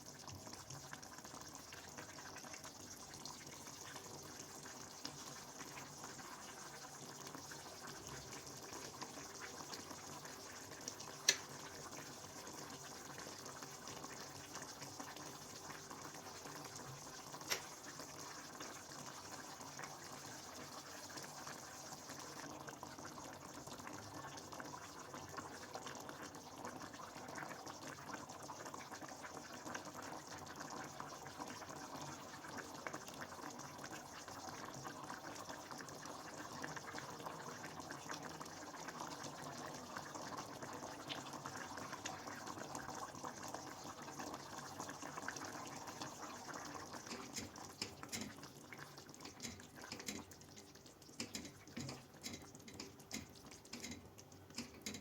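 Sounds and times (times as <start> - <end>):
faint running water: 0.0 - 55.0.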